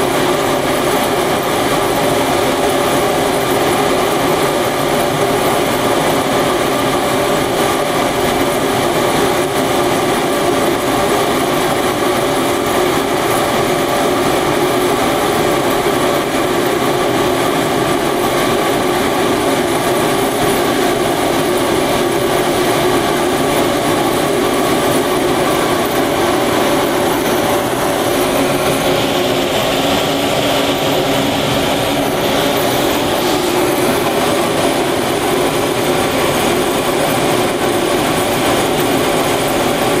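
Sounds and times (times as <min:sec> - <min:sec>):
furnace burner rushing: 0:00.0 - 0:40.0.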